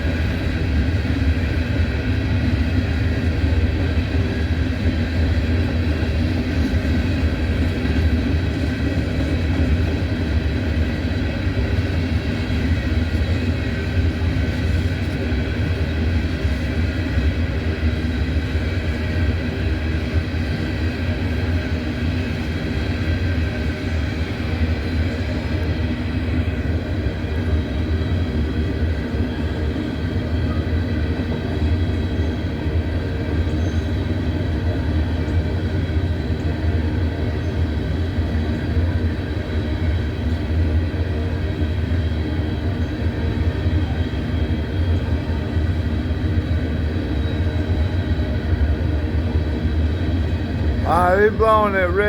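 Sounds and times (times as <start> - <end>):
train wheels rumbling on rail: 0.0 - 50.8.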